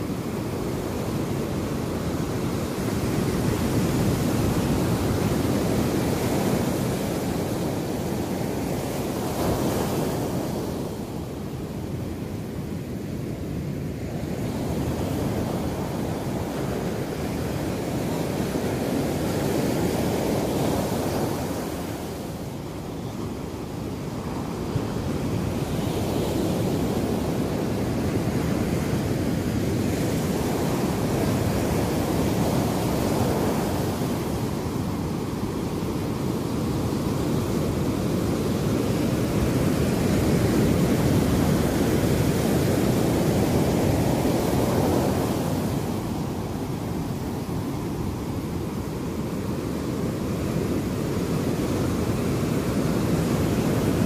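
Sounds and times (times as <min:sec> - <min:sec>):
waves washing over sandy shore: 0:00.0 - 0:54.0.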